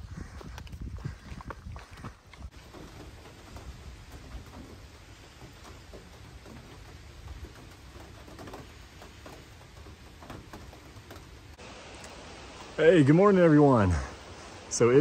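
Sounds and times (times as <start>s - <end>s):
small water drips: 0.0s - 12.8s
light rain pattering: 0.0s - 15.0s.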